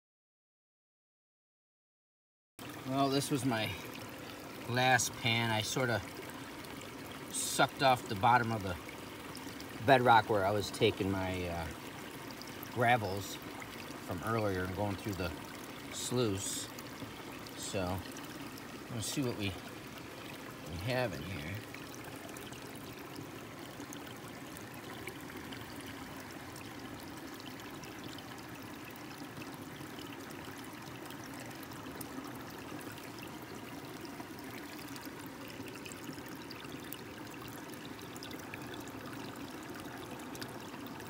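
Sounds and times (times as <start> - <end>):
creek water running: 2.6 - 41.0.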